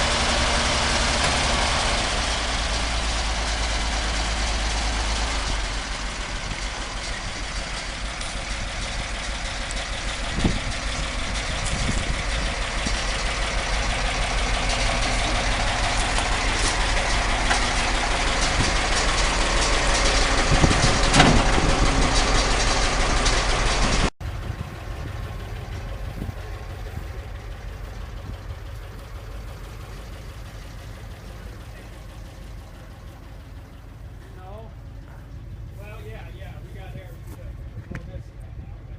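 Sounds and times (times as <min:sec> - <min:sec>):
engine knocks: 0:00.0 - 0:38.9
truck engine idling: 0:00.0 - 0:38.9.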